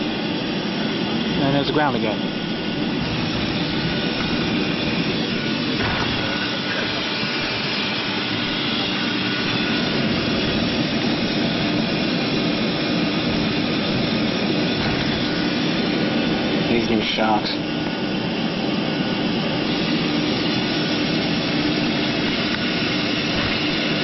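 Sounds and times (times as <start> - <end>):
jet engine cabin noise: 0.0 - 24.0.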